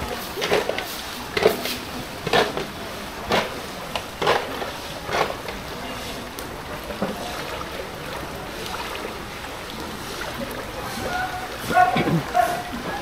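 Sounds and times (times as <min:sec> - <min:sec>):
small water splash: 0:00.0 - 0:13.0
wading through floodwater: 0:00.0 - 0:13.0.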